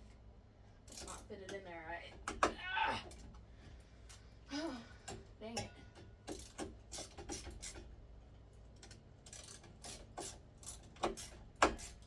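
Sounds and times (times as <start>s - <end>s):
ceiling fan parts clicking and knocking: 0.8s - 12.0s.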